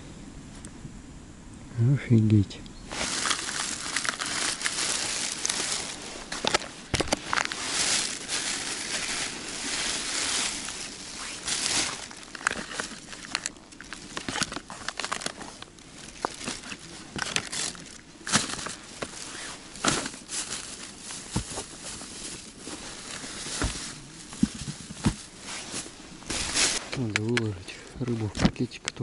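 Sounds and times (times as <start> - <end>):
plastic wrappers crinkling: 2.9 - 27.5.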